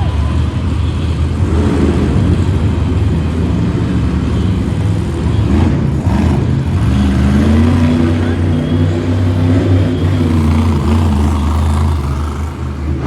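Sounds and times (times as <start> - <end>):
monster truck engine running loudly: 0.0 - 13.0.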